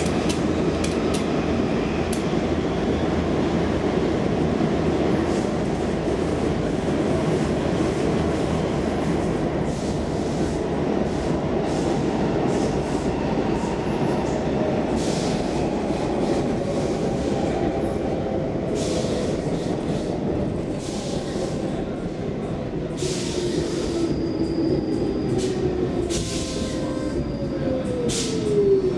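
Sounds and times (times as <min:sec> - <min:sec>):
subway train wheels on rail: 0:00.0 - 0:28.9.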